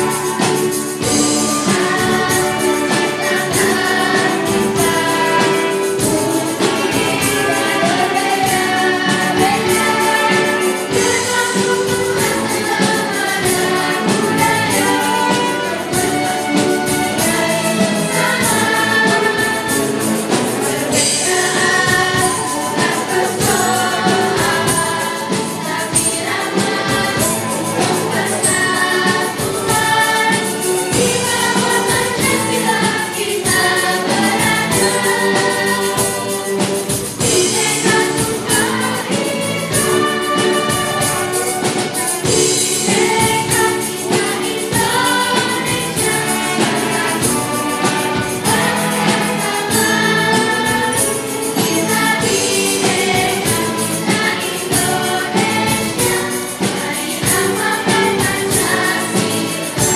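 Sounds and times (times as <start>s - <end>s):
children's choir singing: 0.0s - 59.9s
string orchestra: 0.0s - 59.9s.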